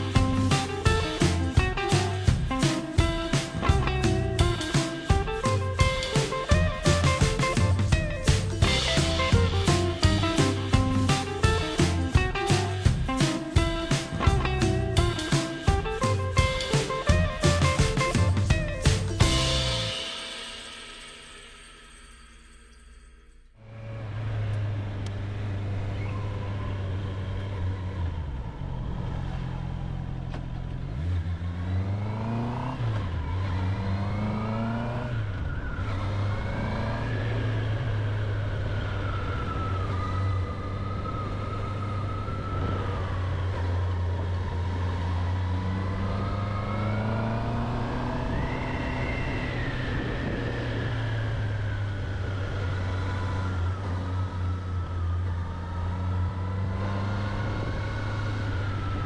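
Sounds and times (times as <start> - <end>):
motorcycle engine accelerating: 0.0 - 20.6, 23.7 - 59.0.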